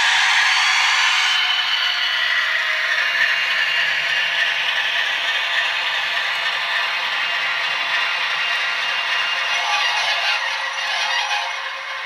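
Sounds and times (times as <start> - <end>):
model train rattling on track: 0.0 - 12.0.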